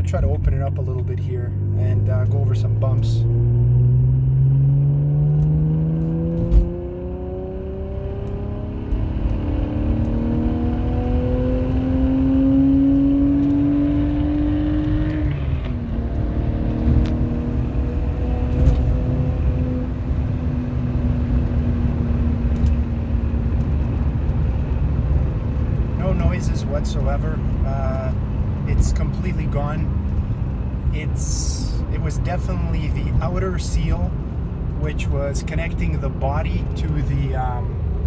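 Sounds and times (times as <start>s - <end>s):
car engine accelerating: 0.0s - 38.0s
road rumble: 0.0s - 38.0s.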